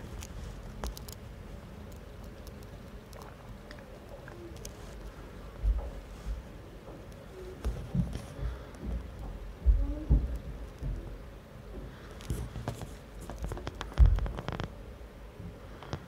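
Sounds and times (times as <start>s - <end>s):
small clicks and rustles: 0.0s - 14.8s, 15.4s - 16.0s.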